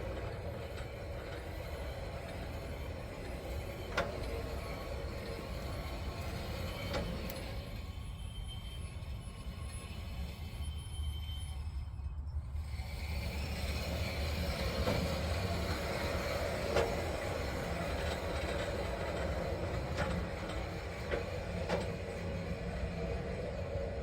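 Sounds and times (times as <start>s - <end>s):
wheels rolling on metal rails: 0.0s - 24.0s.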